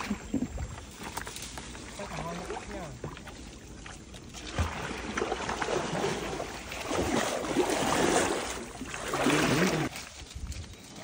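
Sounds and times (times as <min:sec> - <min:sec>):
water splashing from wading steps: 0:00.0 - 0:10.0.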